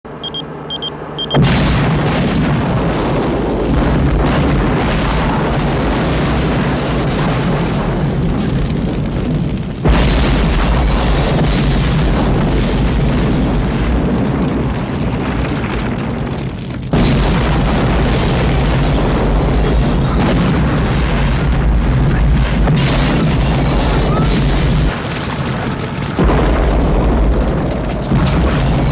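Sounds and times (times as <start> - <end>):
deep continuous rumble: 0.1 - 28.9
explosion blasts: 1.2 - 28.9.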